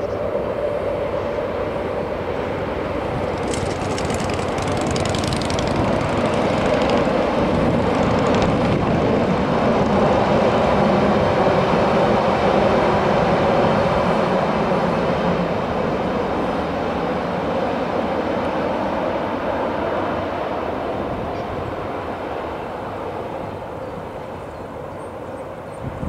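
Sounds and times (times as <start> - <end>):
train rumbling across steel bridge: 0.0 - 26.0.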